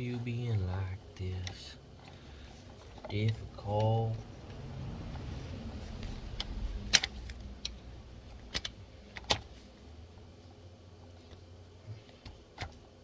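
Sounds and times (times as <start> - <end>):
rubbing and handling noise: 0.0 - 13.0.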